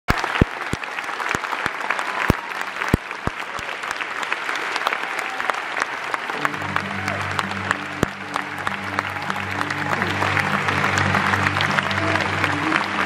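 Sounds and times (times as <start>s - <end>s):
audience applauding: 0.1s - 13.0s.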